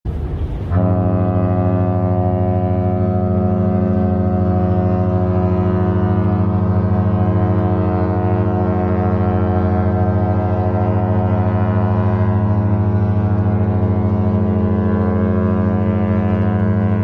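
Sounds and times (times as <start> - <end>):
deep ship horn blast: 0.1 - 17.0.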